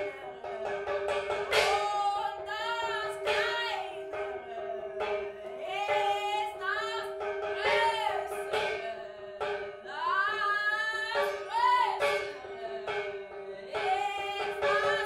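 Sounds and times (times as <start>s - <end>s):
person singing operetta: 0.0s - 15.0s.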